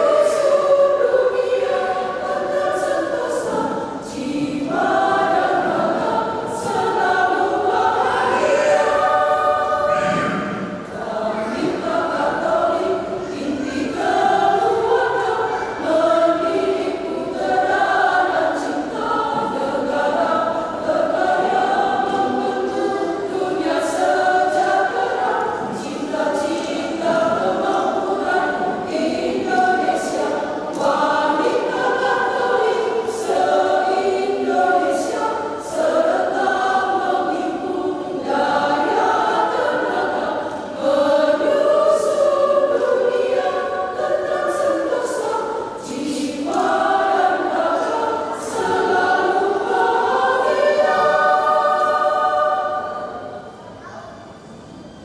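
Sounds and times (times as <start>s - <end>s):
women's choir singing in harmony: 0.0s - 54.8s.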